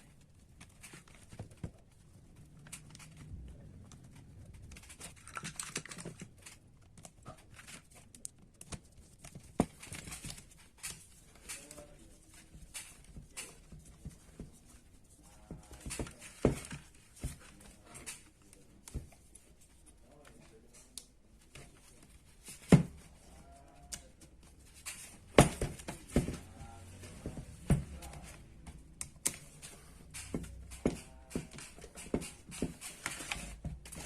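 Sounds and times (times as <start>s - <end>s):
small parts clicking and knocking: 0.0s - 19.5s, 21.8s - 34.0s.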